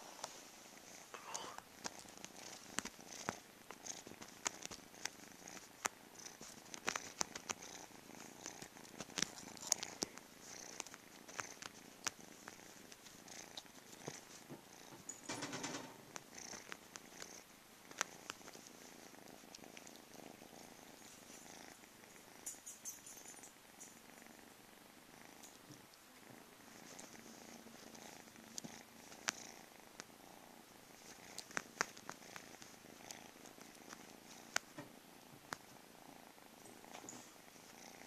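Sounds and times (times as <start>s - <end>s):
cat purring: 0.0s - 38.0s.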